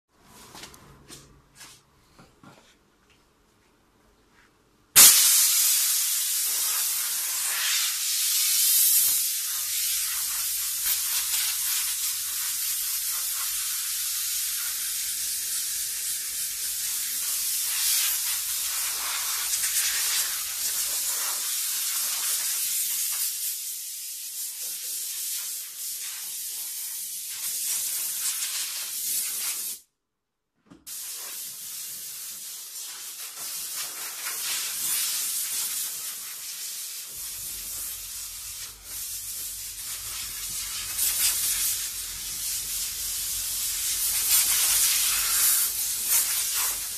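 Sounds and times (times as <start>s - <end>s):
steam cleaner hissing: 5.0s - 29.8s, 30.9s - 46.9s.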